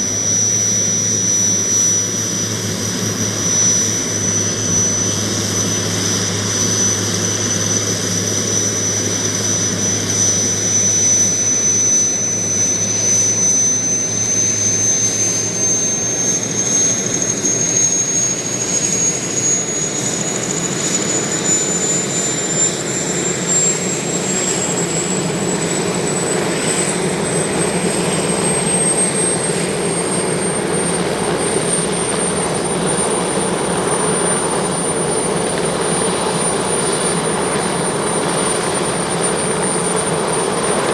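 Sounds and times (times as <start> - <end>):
helicopter turbine whine: 0.0 - 40.9.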